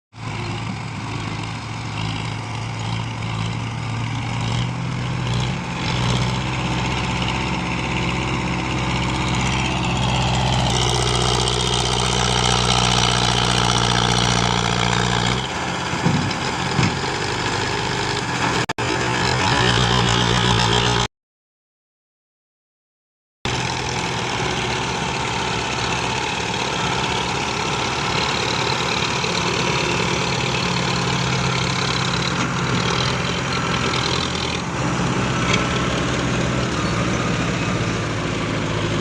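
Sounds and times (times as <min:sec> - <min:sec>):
tractor diesel engine under load: 0:00.1 - 0:21.1, 0:23.5 - 0:39.0.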